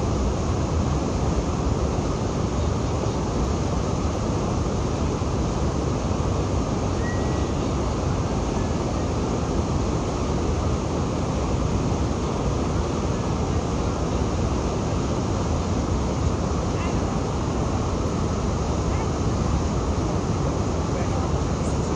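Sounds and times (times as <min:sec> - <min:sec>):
waterfall roaring: 0:00.0 - 0:21.9.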